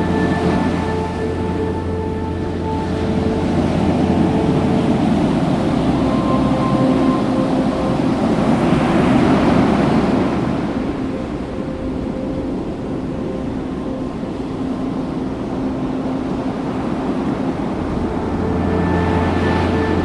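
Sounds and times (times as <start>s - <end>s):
faint held music notes: 0.0s - 20.0s
ocean surf: 0.0s - 20.0s
wind on microphone: 0.0s - 20.0s.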